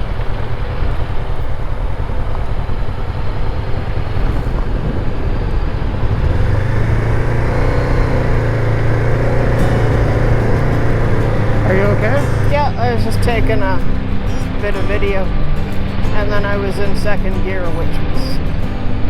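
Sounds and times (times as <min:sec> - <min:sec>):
motorcycle engine running: 0:00.0 - 0:19.0
rushing noise: 0:00.0 - 0:19.0.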